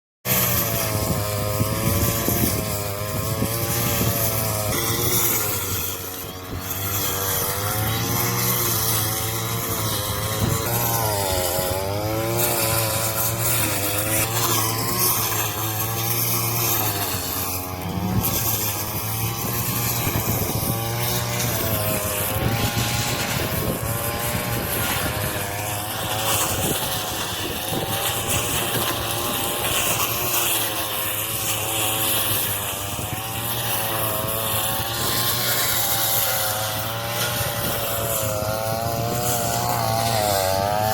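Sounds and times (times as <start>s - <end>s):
straw-cutting machine engine: 0.3s - 40.9s.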